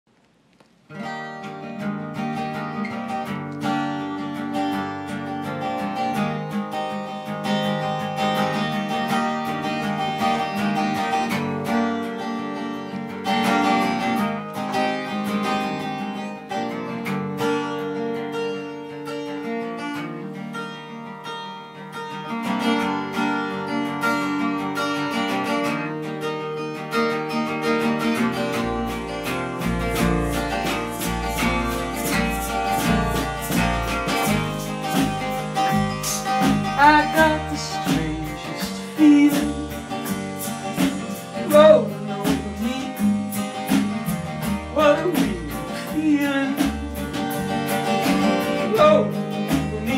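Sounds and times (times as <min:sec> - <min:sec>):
acoustic guitar playing: 0:00.1 - 0:49.9.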